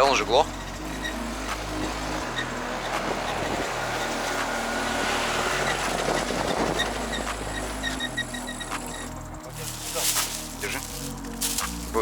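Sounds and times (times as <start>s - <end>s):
moped engine running: 0.0s - 12.0s.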